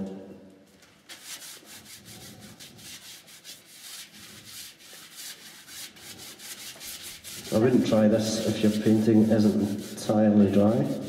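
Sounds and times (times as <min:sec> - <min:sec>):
scrubbing on canvas: 0:01.1 - 0:11.0.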